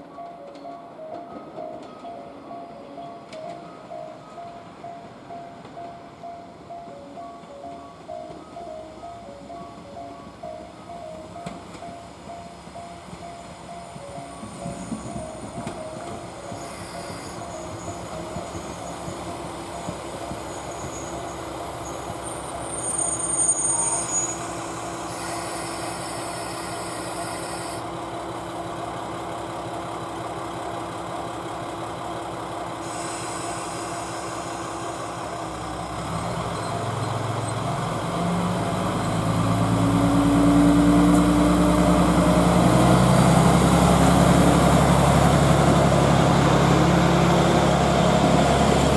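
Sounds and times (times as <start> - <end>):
train approaching: 0.0 - 48.9.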